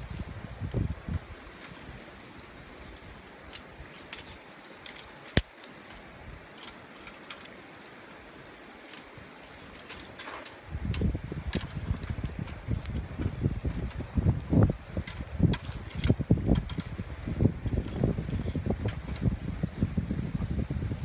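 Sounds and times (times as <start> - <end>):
wind rumble on microphone: 0.0 - 5.4, 9.1 - 21.0
campfire crackling and popping: 0.0 - 21.0.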